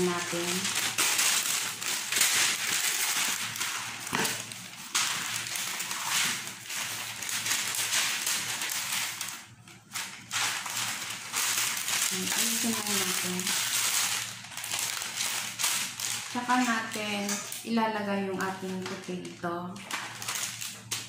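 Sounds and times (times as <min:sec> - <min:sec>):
baking paper crinkling: 0:00.0 - 0:21.0.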